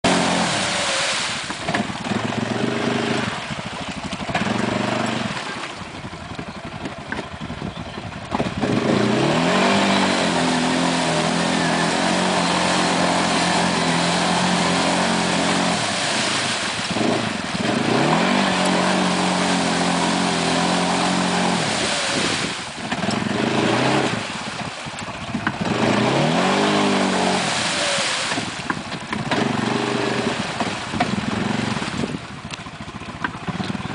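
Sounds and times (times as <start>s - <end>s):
atv engine revving: 0.0s - 33.9s.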